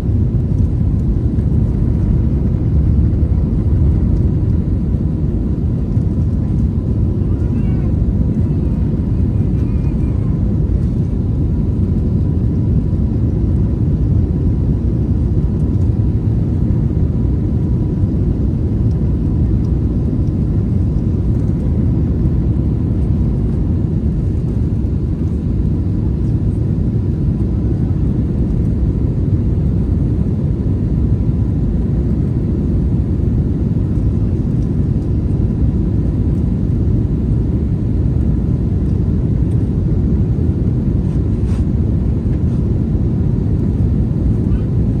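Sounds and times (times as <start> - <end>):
airliner cabin engine rumble: 0.0 - 45.0.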